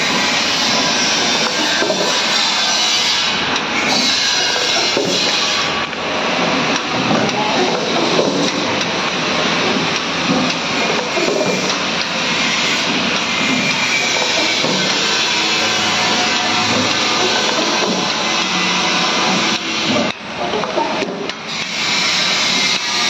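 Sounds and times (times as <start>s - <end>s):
capping machine mechanical din: 0.0s - 23.0s.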